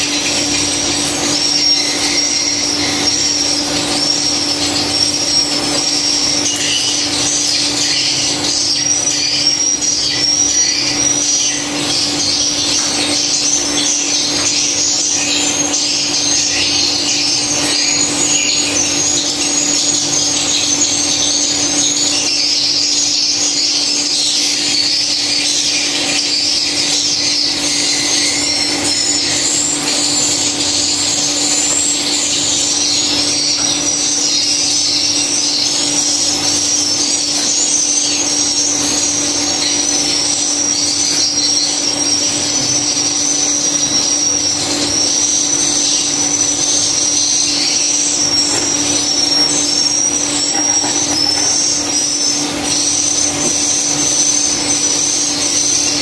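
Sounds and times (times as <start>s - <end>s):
swiftlets twittering: 0.0s - 56.0s.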